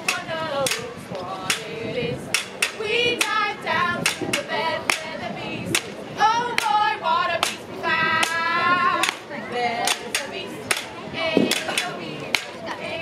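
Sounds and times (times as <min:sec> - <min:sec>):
people singing: 0:00.0 - 0:13.0.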